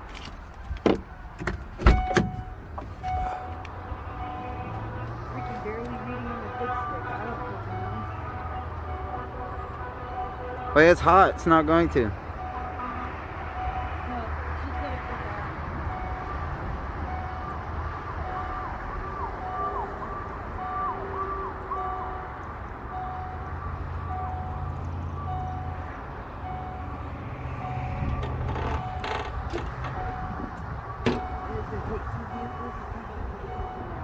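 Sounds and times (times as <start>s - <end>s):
vehicle rumble: 0.0s - 34.0s
emergency vehicle siren: 0.1s - 34.0s.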